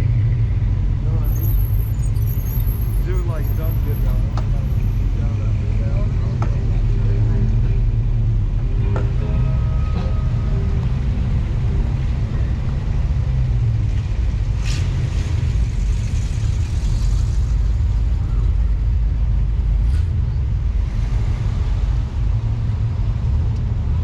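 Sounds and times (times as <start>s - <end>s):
car driving: 0.0s - 24.0s.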